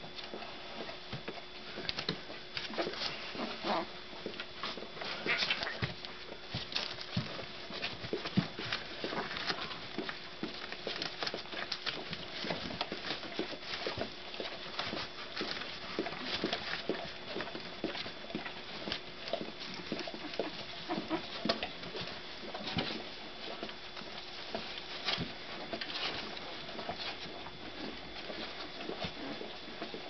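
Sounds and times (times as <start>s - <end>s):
dog licking puppies: 0.3s - 30.0s.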